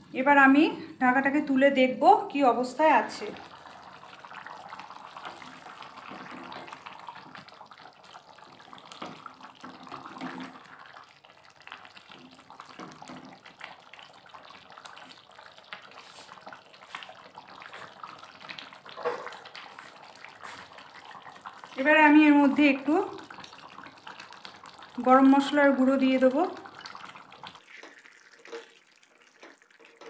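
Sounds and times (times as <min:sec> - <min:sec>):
curry bubbling in a pot: 0:00.0 - 0:30.0.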